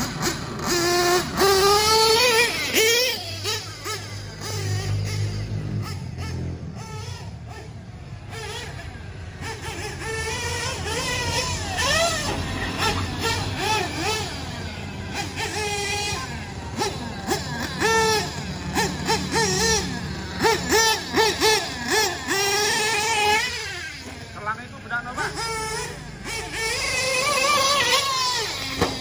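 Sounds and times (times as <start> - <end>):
small engine revving: 0.0 - 29.0.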